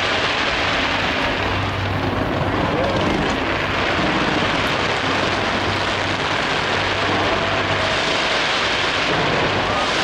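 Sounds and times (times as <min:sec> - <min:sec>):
fireworks going off: 0:00.0 - 0:10.0.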